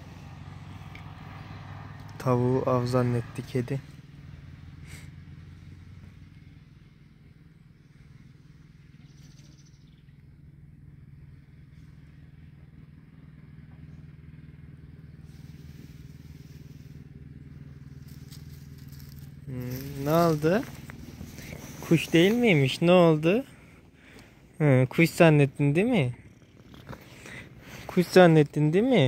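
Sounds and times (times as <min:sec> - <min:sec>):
faint engine hum: 0:00.0 - 0:29.0.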